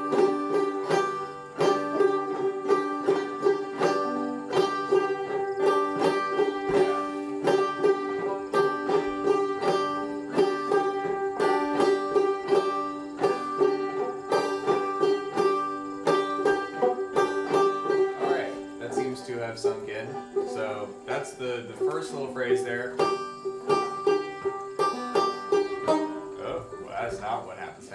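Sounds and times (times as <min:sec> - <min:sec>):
banjo picking a tune: 0:00.0 - 0:27.9.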